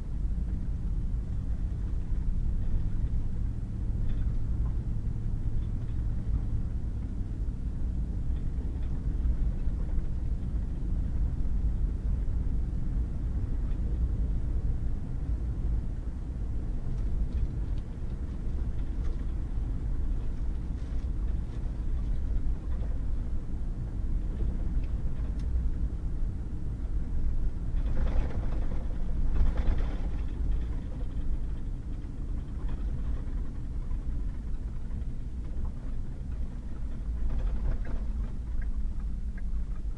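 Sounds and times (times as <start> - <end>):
engine and tyres on gravel: 0.0 - 39.9.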